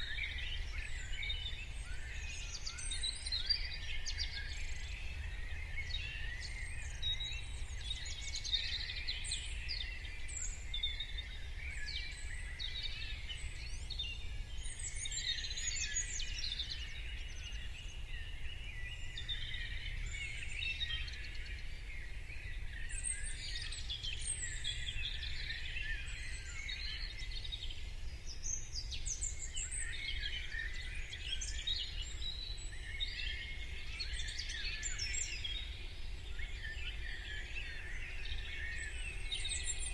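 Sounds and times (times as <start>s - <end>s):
many birds singing: 0.0s - 39.9s.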